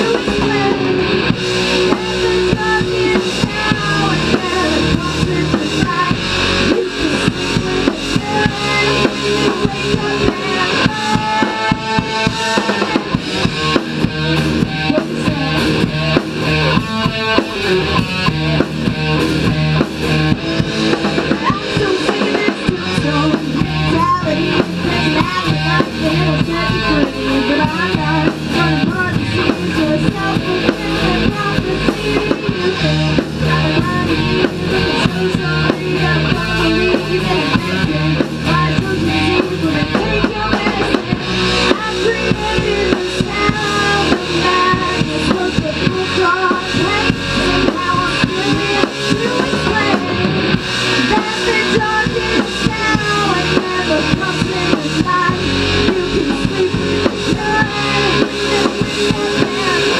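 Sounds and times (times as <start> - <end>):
drum kit playing: 0.0 - 59.9
electric guitar: 0.0 - 59.9.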